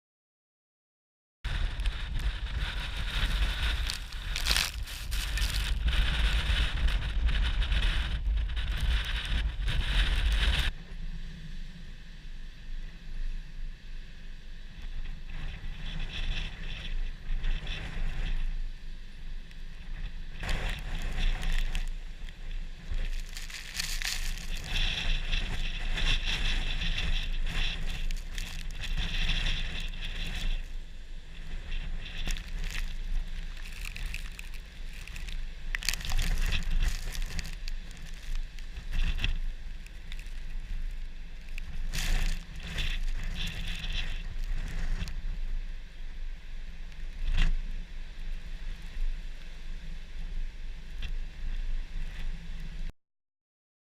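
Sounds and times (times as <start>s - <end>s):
wind buffeting microphone: 1.5s - 11.0s, 14.8s - 52.9s.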